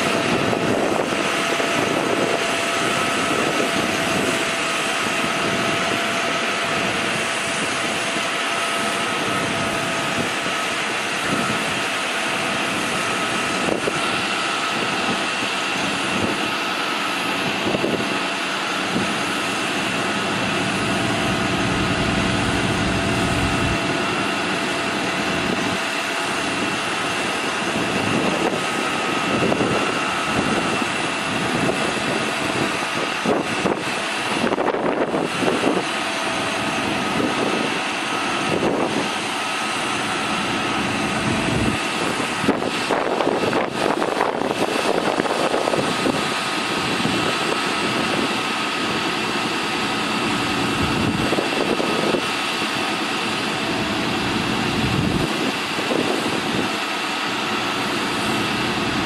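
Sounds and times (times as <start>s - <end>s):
diesel engine idling: 0.0s - 34.5s, 35.1s - 59.0s
steady high whine: 0.0s - 59.0s.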